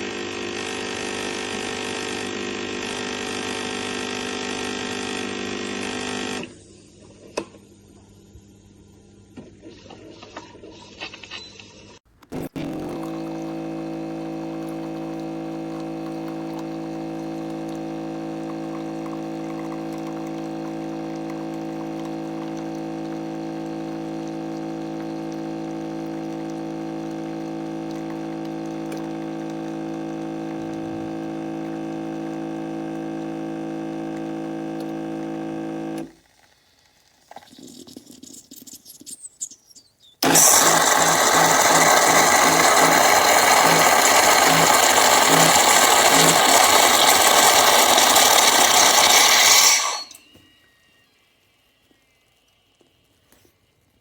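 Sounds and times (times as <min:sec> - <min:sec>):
coffee machine pump humming: 0:00.0 - 0:06.6, 0:12.4 - 0:38.7, 0:40.2 - 0:54.0.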